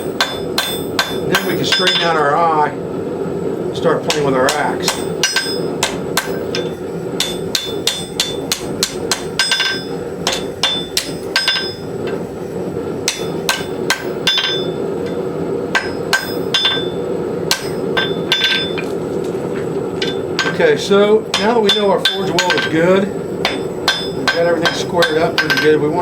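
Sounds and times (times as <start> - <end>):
hammer striking steel on anvil: 0.0 - 2.2, 4.1 - 12.2, 13.0 - 18.9, 20.0 - 20.7, 21.3 - 26.0.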